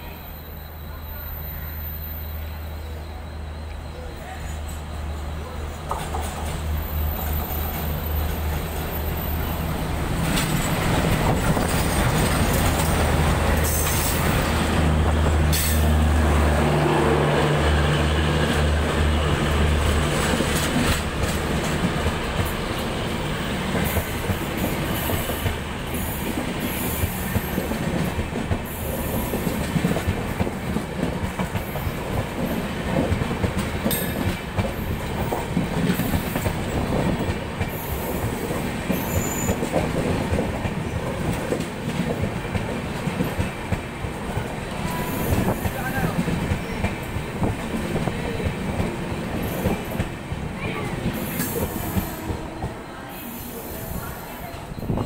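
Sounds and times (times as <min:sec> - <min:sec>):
diesel locomotive engine drone: 0:00.0 - 0:55.0
train wheels clattering on rails: 0:05.7 - 0:52.9.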